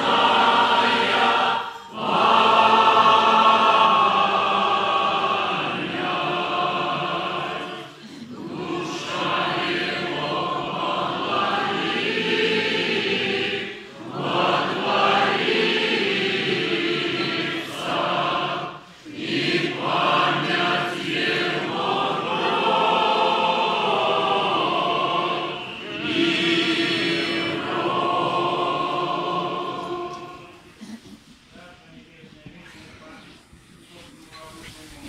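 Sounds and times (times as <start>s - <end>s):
choir chanting: 0.0s - 30.8s.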